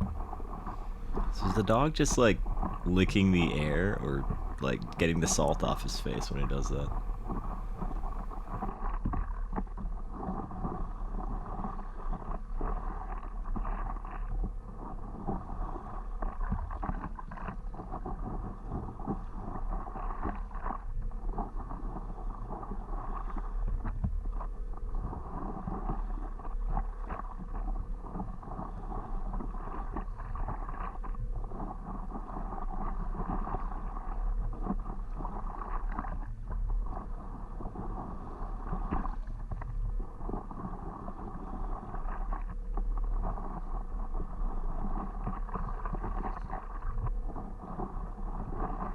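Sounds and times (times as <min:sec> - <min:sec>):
water splashing around paddleboard: 0:00.0 - 0:48.9
wind rumble on microphone: 0:00.0 - 0:48.9.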